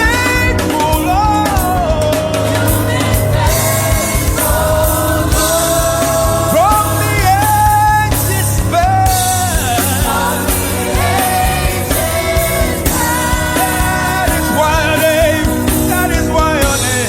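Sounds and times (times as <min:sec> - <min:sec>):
band with steady bass: 0:00.0 - 0:17.0.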